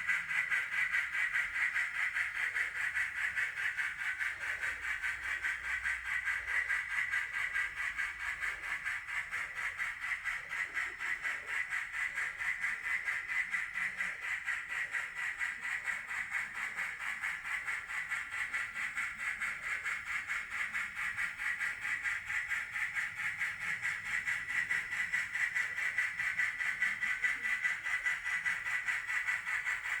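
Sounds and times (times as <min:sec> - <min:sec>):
model train hiss with pulse: 0:00.0 - 0:30.0.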